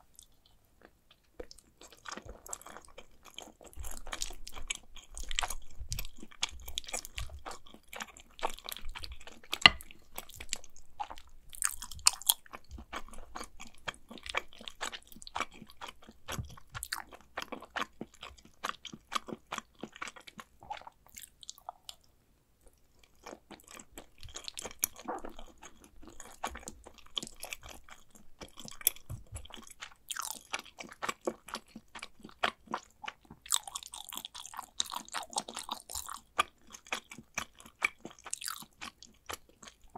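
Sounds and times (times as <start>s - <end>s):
person chewing wet mouth sounds: 0.0s - 39.9s.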